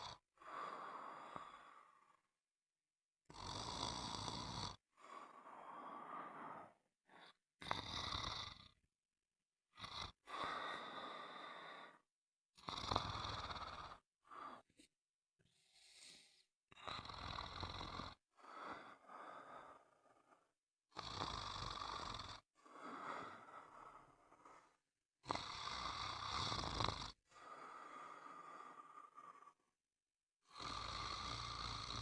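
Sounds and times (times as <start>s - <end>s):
person snoring: 3.3s - 8.8s, 9.7s - 12.0s, 12.6s - 14.9s, 15.5s - 29.7s, 30.4s - 32.0s.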